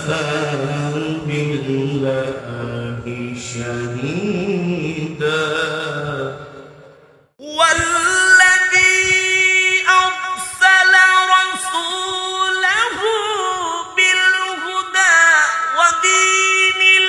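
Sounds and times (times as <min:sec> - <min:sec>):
person chanting melodic recitation: 0:00.0 - 0:06.7, 0:07.4 - 0:17.0.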